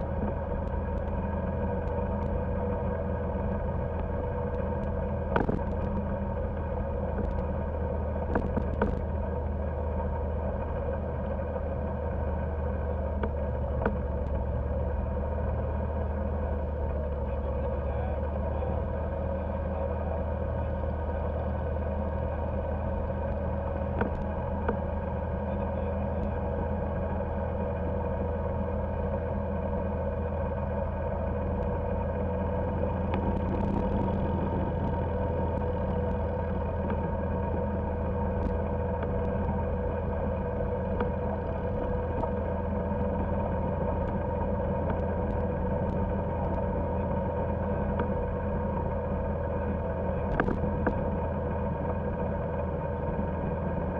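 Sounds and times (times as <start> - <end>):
golf cart motor droning: 0.0 - 53.9.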